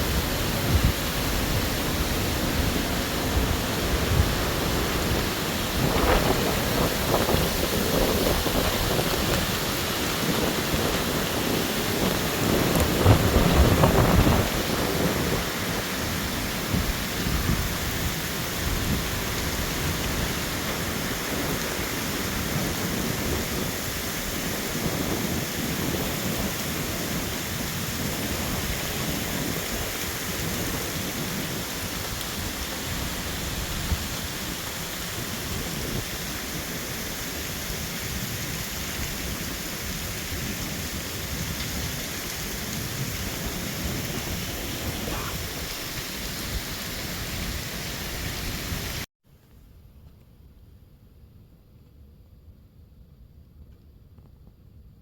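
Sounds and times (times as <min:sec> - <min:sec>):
storm wind roaring: 0:00.0 - 0:49.1.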